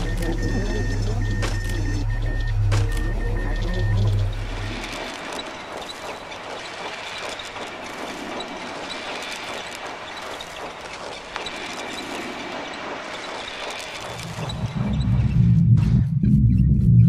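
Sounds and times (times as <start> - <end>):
machinery clattering: 0.0 - 16.1.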